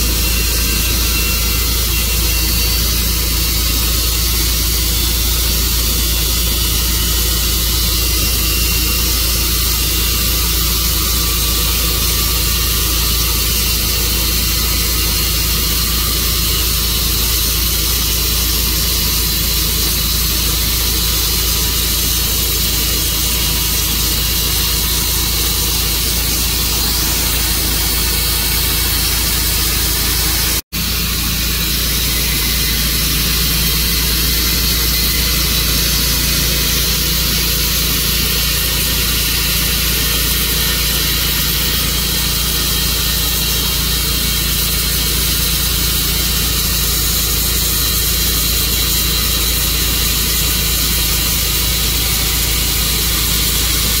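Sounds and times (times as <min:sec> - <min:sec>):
sawmill running: 0:00.0 - 0:54.0.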